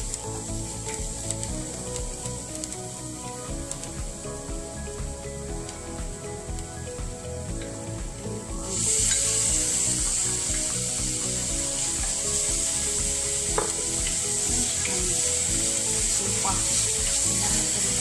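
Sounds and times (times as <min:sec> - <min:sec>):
meat sizzling in pan: 0:00.0 - 0:06.9, 0:07.6 - 0:18.0.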